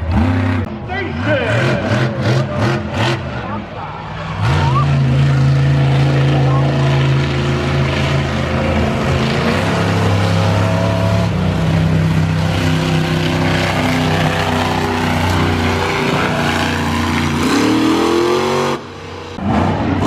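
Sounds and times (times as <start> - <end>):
engine revving up whine: 0.0 - 20.0
racing engines running: 0.0 - 20.0.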